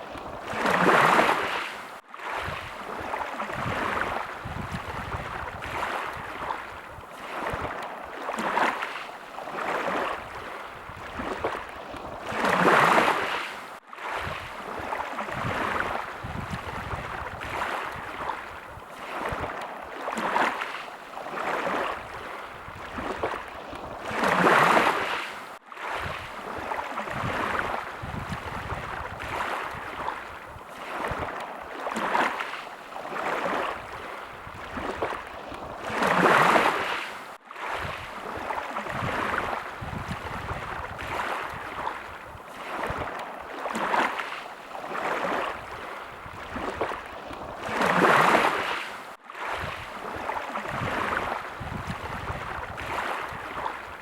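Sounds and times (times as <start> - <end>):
small waves washing ashore: 0.0 - 54.0.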